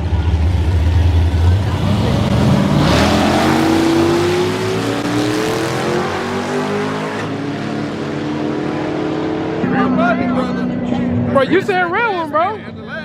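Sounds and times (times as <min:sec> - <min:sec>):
drag racing engines accelerating: 0:00.0 - 0:13.0.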